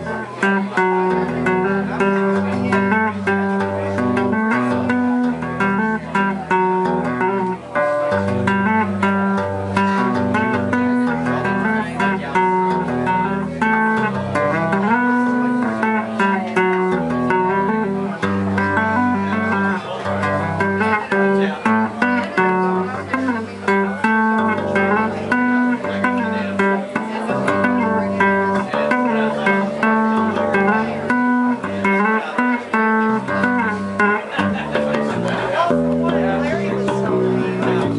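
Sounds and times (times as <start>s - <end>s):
electric bass guitar: 0.0s - 37.9s.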